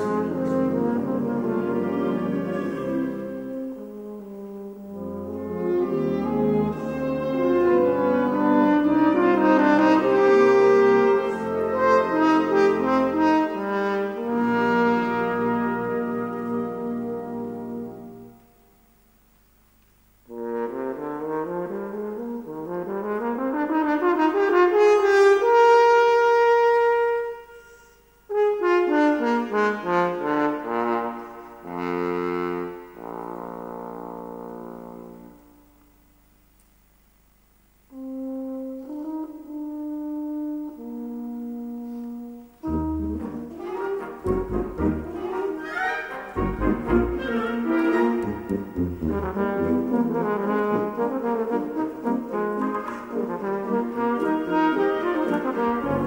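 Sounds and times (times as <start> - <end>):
wind band brass chords: 0.0 - 18.9, 20.2 - 36.2, 37.9 - 56.0
french horn solo: 0.0 - 19.0, 20.2 - 36.5, 37.7 - 56.0.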